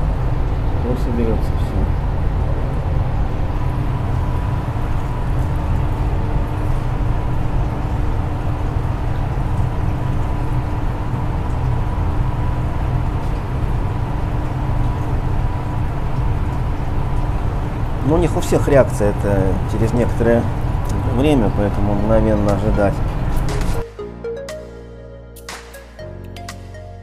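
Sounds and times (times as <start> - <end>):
aquarium equipment humming: 0.0 - 27.0
faint constant whine: 0.0 - 27.0.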